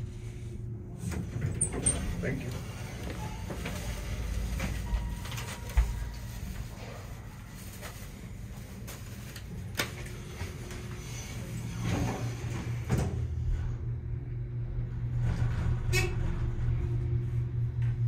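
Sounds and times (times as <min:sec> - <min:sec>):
elevator machine humming: 0:00.0 - 0:18.0
elevator doors closing: 0:00.9 - 0:08.2, 0:09.2 - 0:18.0.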